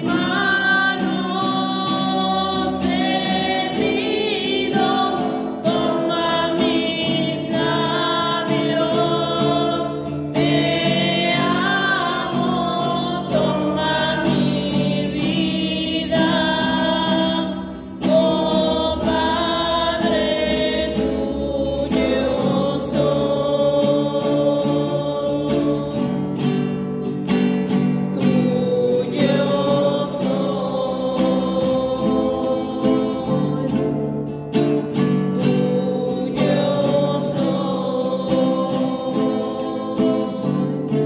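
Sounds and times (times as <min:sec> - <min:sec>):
choir singing: 0:00.0 - 0:26.7, 0:27.5 - 0:41.0
strummed acoustic guitar: 0:00.0 - 0:41.0.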